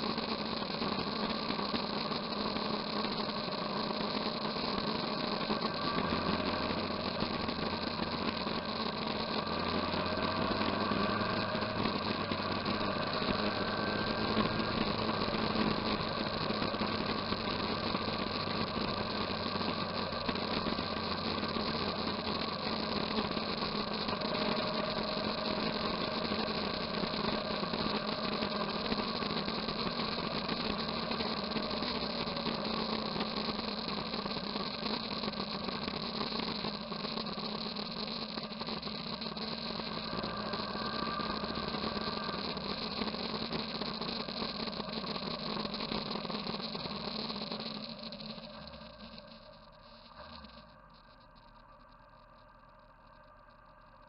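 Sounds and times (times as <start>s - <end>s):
constant hiss: 0.0s - 54.0s
motorcycle engine running: 1.6s - 37.0s, 38.6s - 54.0s.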